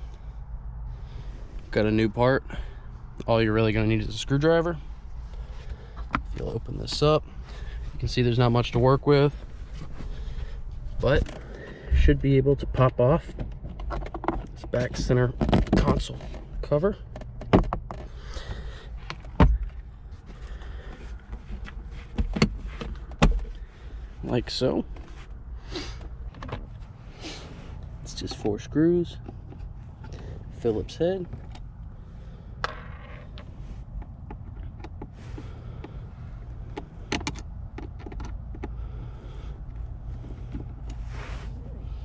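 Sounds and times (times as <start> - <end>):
steady low rumble: 0.0 - 17.5, 18.1 - 42.0.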